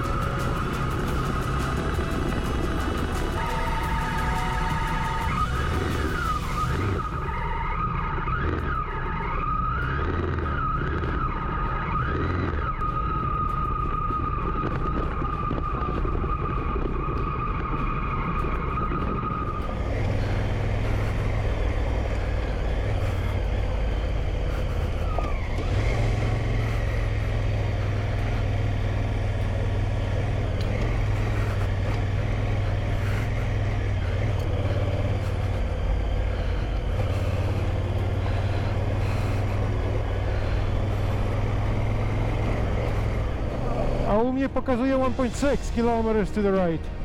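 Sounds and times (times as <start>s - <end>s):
motorcycle engine droning: 0.0s - 47.0s
tyres on gravel: 0.0s - 47.0s
wind: 0.0s - 47.0s.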